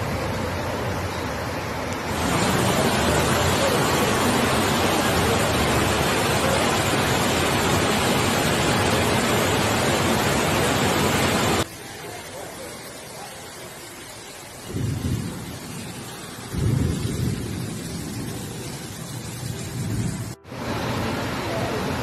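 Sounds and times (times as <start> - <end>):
floodwater rushing: 0.0 - 22.0
heavy rain: 0.0 - 22.0.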